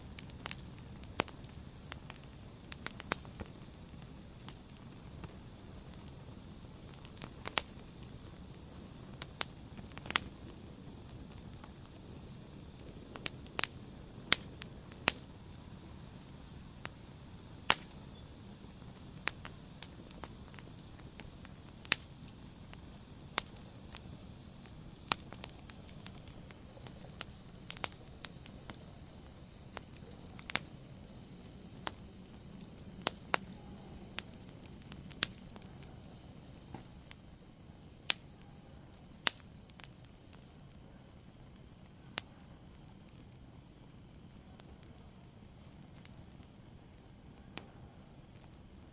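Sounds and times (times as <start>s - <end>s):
fire hissing: 0.0s - 48.9s
logs crackling and popping: 0.0s - 48.9s.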